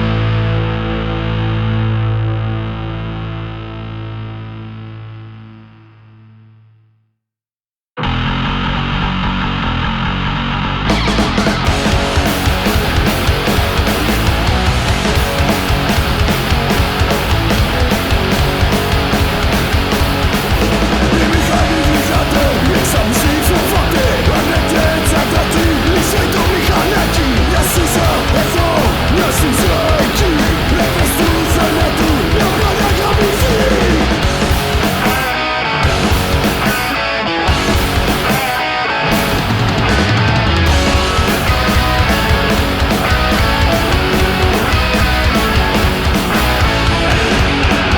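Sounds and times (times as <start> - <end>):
drums: 0.0 - 2.3, 9.3 - 47.9
punk rock band playing: 0.0 - 3.0, 10.9 - 47.9
distorted electric guitars: 0.0 - 6.6, 8.0 - 47.9.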